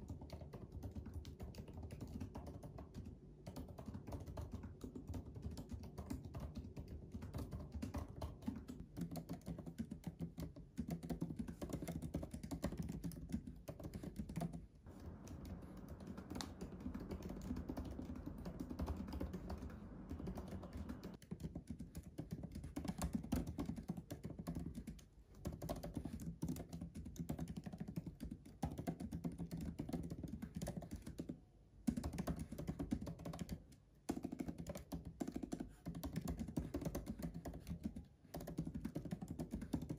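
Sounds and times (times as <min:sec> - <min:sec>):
laptop keyboard typing: 0:00.0 - 0:39.9.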